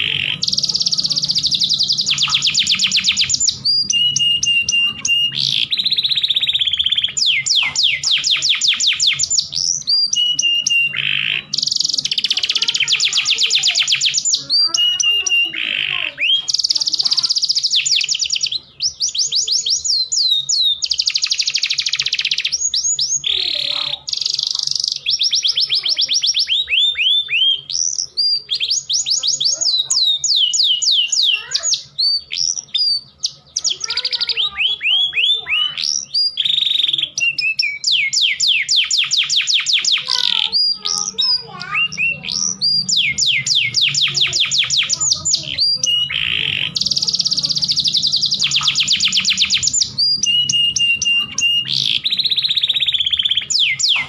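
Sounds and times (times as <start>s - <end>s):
canary singing fast trills: 0.0s - 54.0s.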